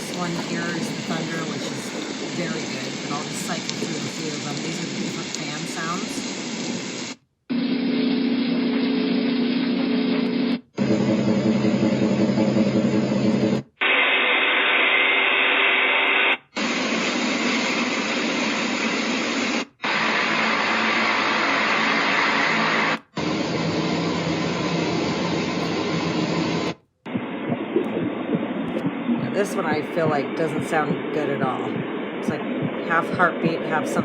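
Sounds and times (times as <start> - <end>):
steady hum: 0.0 - 34.0.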